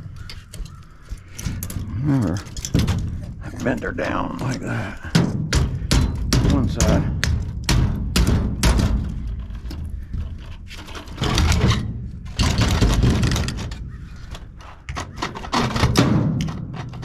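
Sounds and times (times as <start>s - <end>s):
metal knocking and clanking: 0.0s - 17.0s.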